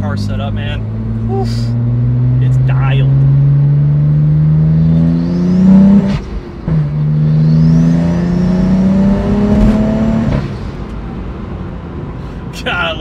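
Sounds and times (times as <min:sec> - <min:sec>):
car engine accelerating hard: 0:00.0 - 0:11.8.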